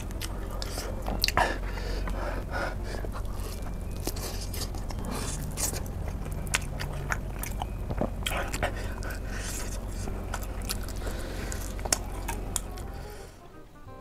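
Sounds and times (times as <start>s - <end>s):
chewing crunchy fried chicken: 0.0s - 13.4s
steady low hum: 0.0s - 14.0s.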